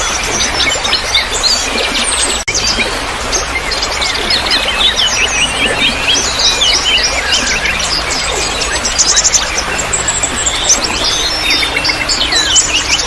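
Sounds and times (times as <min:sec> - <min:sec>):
songbirds chirping: 0:00.0 - 0:13.0
trickling water: 0:00.0 - 0:13.0.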